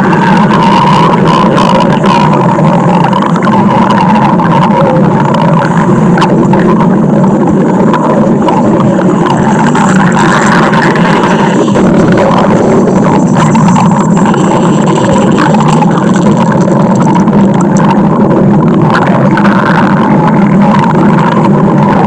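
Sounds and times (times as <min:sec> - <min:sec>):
cartoon stomach growl: 0:00.0 - 0:22.0.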